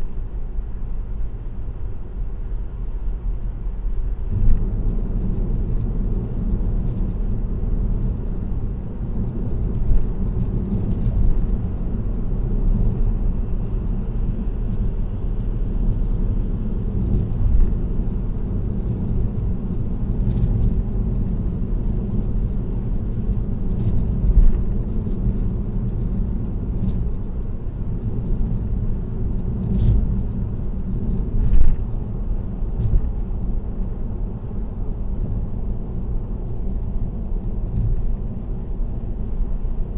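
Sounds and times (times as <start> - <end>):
car road and tyre noise: 0.0 - 39.9
small rattles: 4.3 - 39.1.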